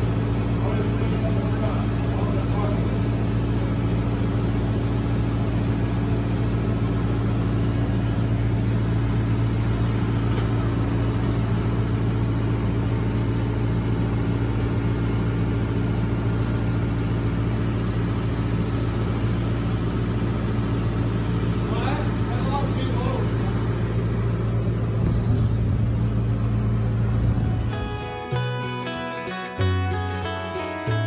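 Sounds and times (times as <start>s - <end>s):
loader engine idling: 0.0s - 31.0s.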